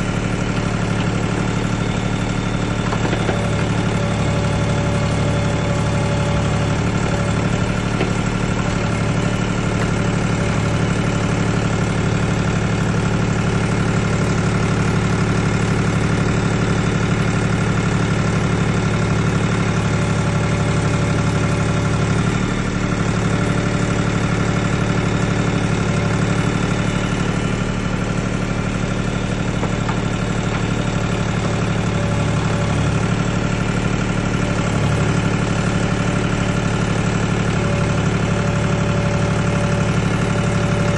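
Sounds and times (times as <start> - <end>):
backhoe engine running: 0.0 - 40.9.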